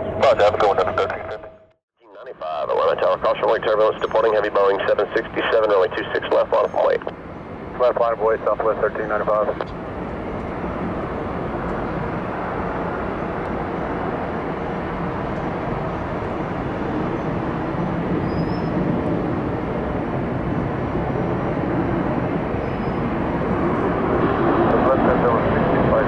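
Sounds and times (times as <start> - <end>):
jet engines at takeoff: 0.0 - 1.4, 2.2 - 26.0.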